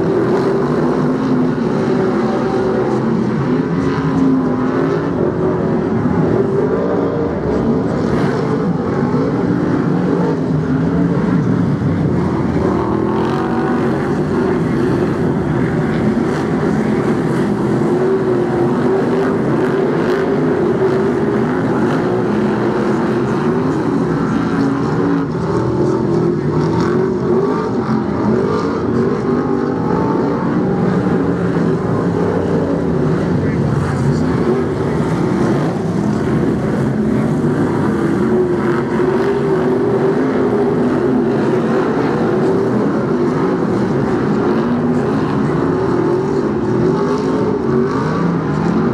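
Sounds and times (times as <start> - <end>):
racing car engines: 0.0 - 48.9.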